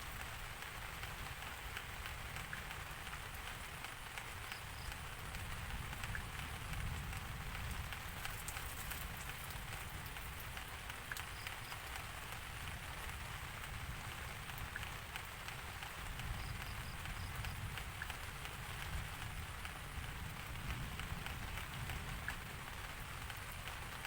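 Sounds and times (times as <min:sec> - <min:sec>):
rain falling: 0:00.0 - 0:24.0
raindrops ticking: 0:00.0 - 0:24.0.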